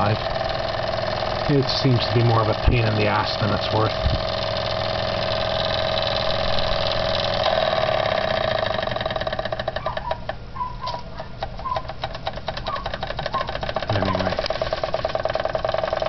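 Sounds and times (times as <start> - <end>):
toy steam engine chattering: 0.0 - 10.4, 11.2 - 16.0.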